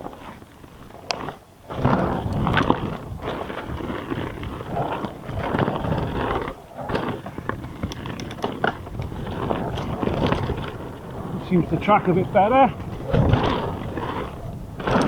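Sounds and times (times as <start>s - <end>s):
bike knocking and rattling: 0.0s - 15.0s
bike tyres rolling on dirt: 0.0s - 15.0s.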